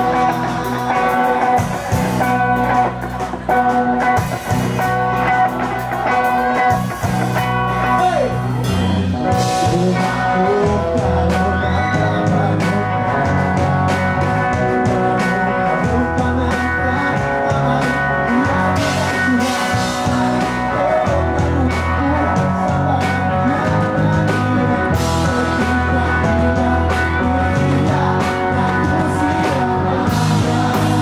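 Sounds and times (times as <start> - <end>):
pulsing bass line: 0.0 - 31.0
steady drum beat: 0.0 - 31.0.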